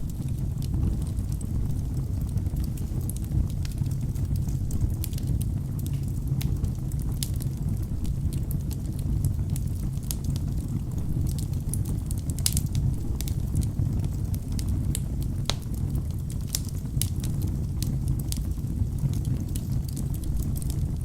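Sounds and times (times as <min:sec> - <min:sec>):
crackles and pops of burning logs: 0:00.0 - 0:21.0
low rumble of flames: 0:00.0 - 0:21.0.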